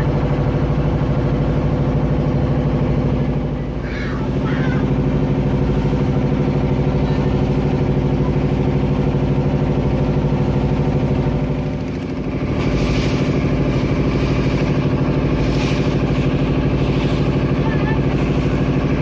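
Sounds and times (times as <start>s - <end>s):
boat diesel engine chugging: 0.0s - 19.0s.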